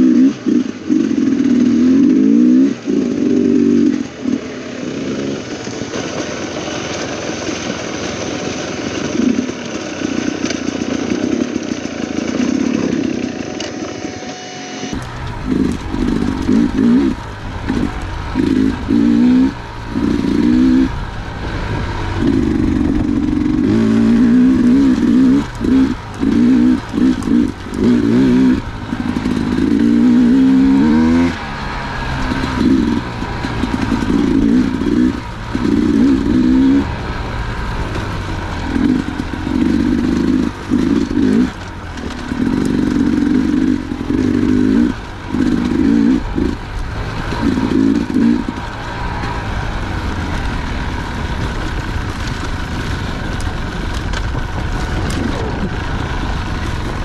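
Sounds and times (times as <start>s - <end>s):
dirt bike engine revving: 0.0s - 7.0s, 8.7s - 57.0s.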